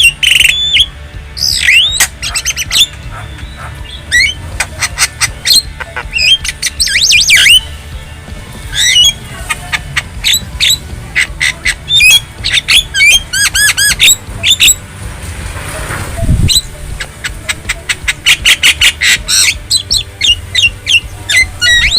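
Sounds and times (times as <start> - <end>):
bird squawks and whistles: 0.0 - 7.7, 8.7 - 14.8, 15.9 - 21.9.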